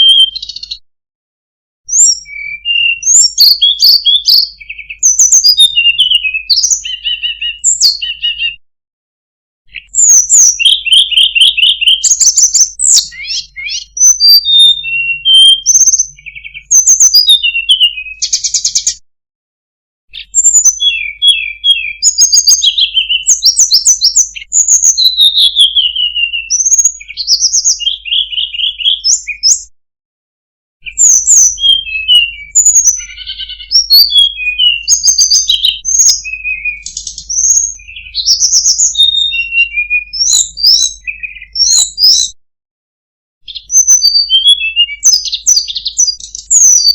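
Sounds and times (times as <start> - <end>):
bird whistled song and trills: 0.0 - 0.8, 1.9 - 8.6, 9.7 - 19.0, 20.1 - 29.7, 30.8 - 42.4, 43.4 - 46.9.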